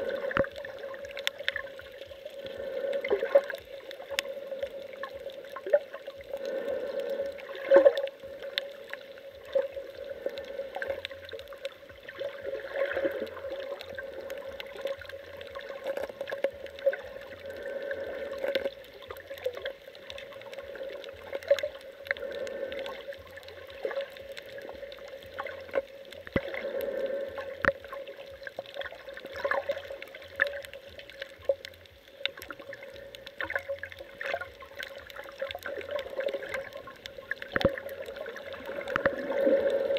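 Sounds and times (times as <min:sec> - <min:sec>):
underwater gurgling and sloshing: 0:00.0 - 0:39.9.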